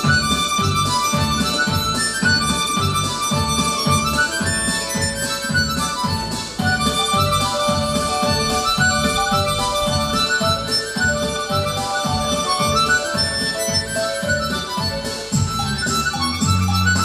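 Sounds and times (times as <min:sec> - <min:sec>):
instrumental music with bass beat: 0:00.0 - 0:17.0.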